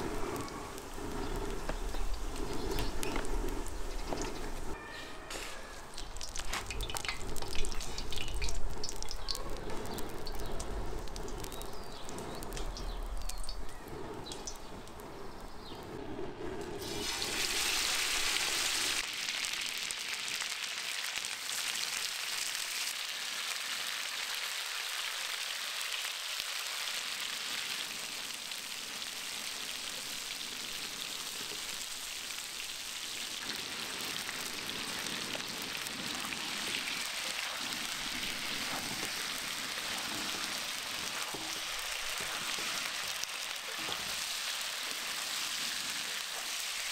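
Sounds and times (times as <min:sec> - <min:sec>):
meat sizzling in hot fat: 0:05.8 - 0:13.7, 0:16.8 - 0:46.9.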